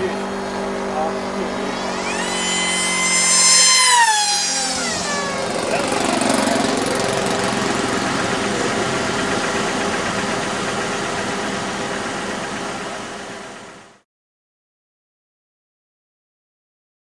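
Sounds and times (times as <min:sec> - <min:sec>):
model plane engine running: 0:00.0 - 0:14.0.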